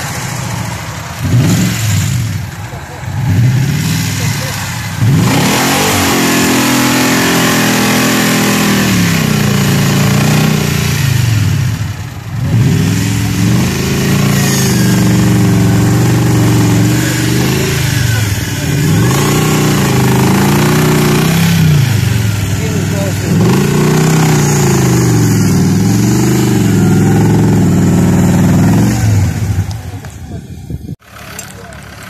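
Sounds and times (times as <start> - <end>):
buggy engine revving hard: 0.0 - 32.0.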